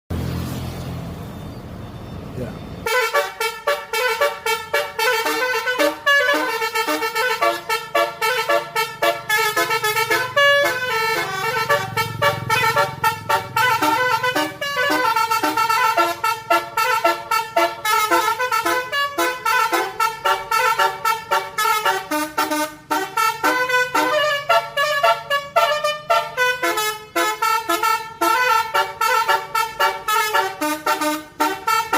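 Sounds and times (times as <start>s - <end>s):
multi-tone musical air horn: 2.8s - 31.9s.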